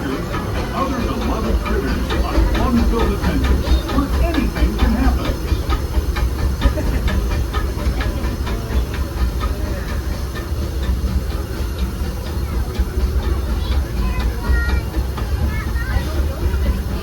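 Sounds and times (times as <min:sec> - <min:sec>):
steam hissing: 0:00.0 - 0:17.0
steam train rumble: 0:00.0 - 0:17.0
train wheels clattering: 0:00.0 - 0:17.0.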